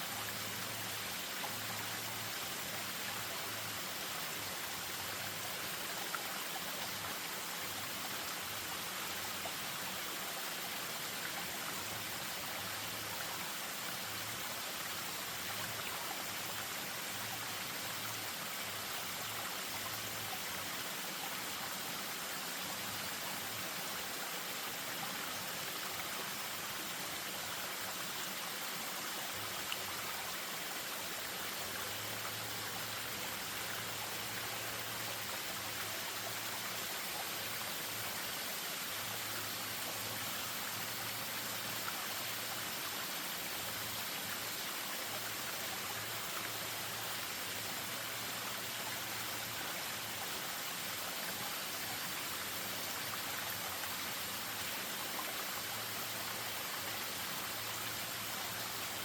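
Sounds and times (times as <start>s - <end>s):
stream over small waterfall: 0.0s - 59.0s.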